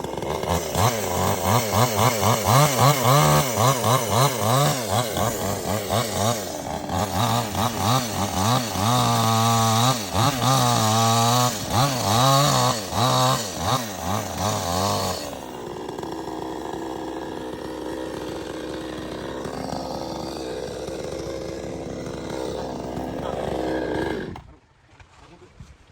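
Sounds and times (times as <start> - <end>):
chainsaw cutting wood: 0.0 - 24.5
chainsaw idling: 0.0 - 24.5.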